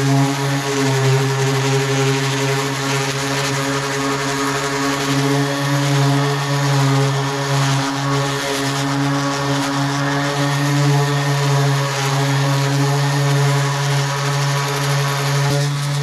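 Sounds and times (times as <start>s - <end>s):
orbital sander on plastic: 0.0s - 16.0s.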